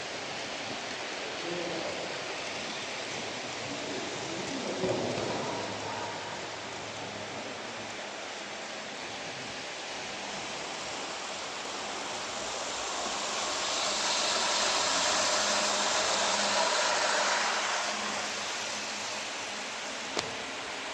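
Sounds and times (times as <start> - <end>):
faint motor whine: 0.0 - 20.9
model train running on track: 0.0 - 20.9
steady hiss: 0.0 - 20.9.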